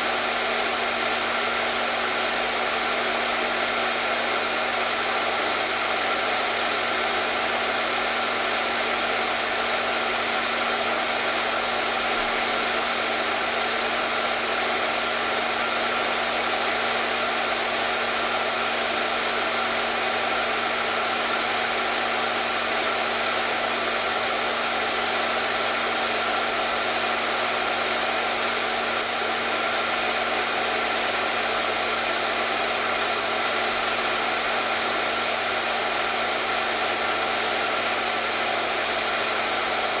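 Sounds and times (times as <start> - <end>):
hair dryer running: 0.0 - 40.0.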